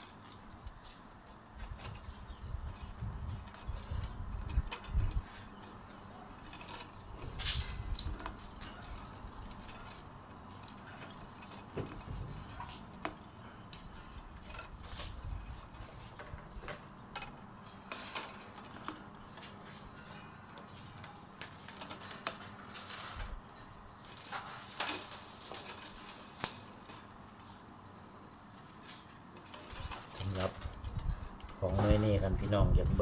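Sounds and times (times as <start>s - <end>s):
bamboo strips clicking and scraping: 0.0s - 33.0s.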